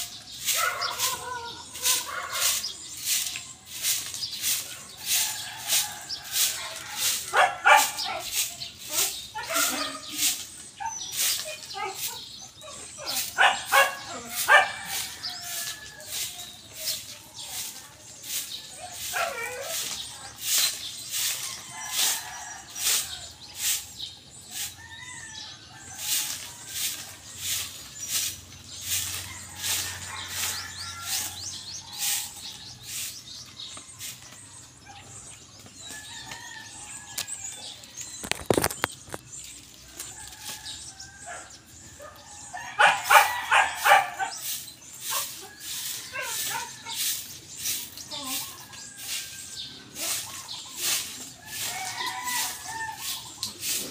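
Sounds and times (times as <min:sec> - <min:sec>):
stick broom sweeping dirt: 0:00.0 - 0:53.9.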